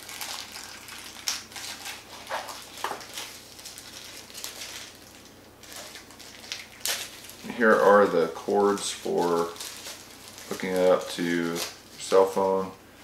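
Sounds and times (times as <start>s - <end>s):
packing wrap crinkling: 0.0s - 12.6s.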